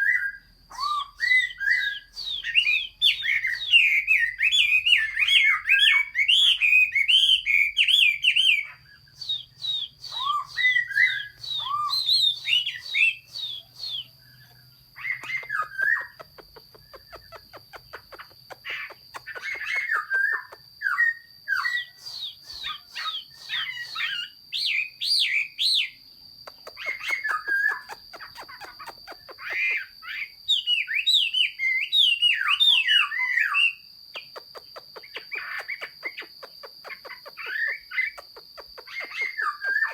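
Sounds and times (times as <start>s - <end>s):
bird singing whistled phrases: 0.0s - 26.0s, 26.6s - 39.9s.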